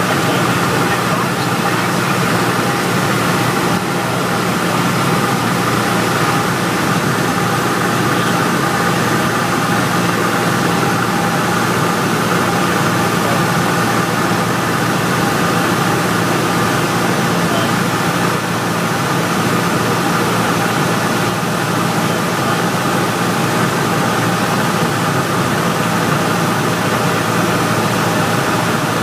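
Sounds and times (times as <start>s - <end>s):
airplane engine droning: 0.0s - 29.0s.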